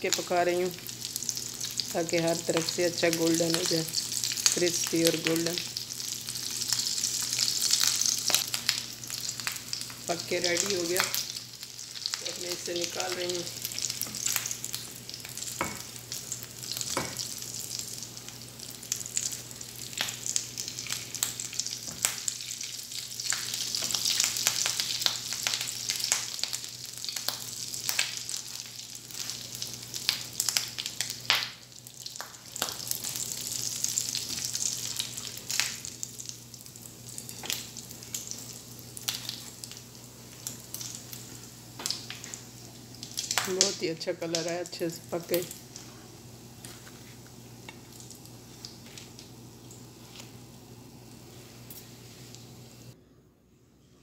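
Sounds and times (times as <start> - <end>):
food deep-frying in hot oil: 0.0 - 52.9.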